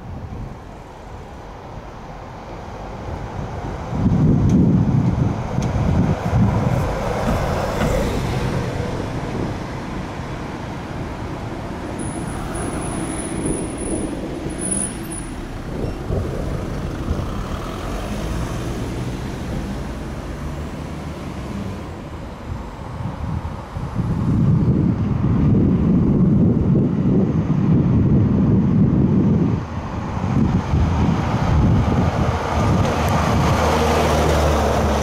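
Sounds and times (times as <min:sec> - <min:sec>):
vehicle engines and tyre noise: 0:00.0 - 0:35.0.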